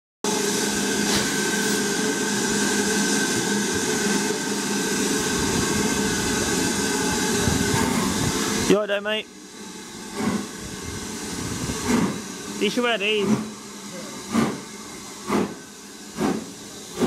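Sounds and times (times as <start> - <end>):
steam locomotive releasing steam: 0.3 - 17.0.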